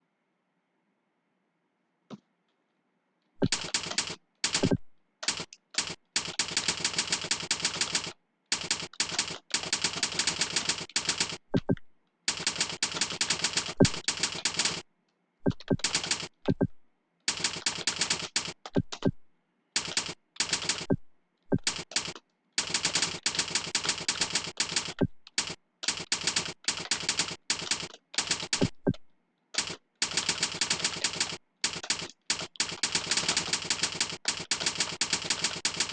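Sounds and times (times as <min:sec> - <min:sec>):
fast keyboard typing: 0:03.4 - 0:14.8, 0:15.4 - 0:19.2, 0:19.8 - 0:29.0, 0:29.6 - 0:35.9.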